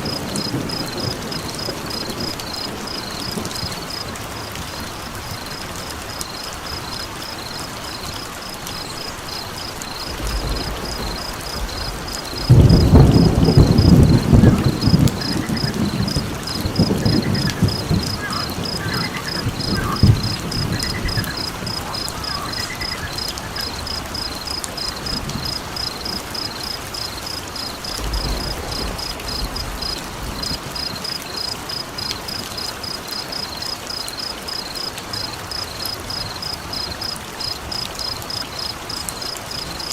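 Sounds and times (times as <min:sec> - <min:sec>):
thunder rumbling: 0:00.0 - 0:32.4
steady rain: 0:00.0 - 0:39.9.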